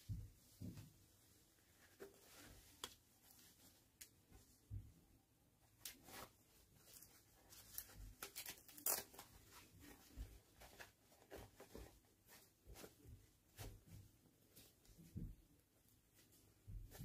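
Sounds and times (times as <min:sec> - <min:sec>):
fabric rustling: 0:00.0 - 0:04.8, 0:05.8 - 0:17.0.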